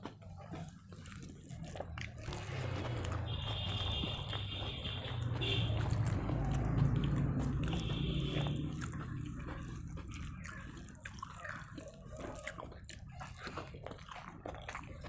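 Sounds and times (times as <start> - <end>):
mouth clicks and smacks: 0.0 - 15.0
wet squelchy eating: 0.0 - 15.0.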